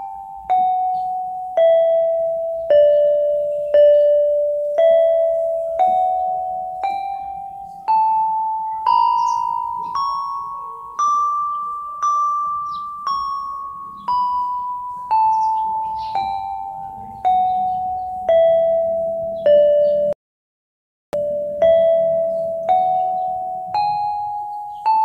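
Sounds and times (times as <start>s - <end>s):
electronic keyboard playing a scale: 0.0s - 20.2s, 21.2s - 25.0s.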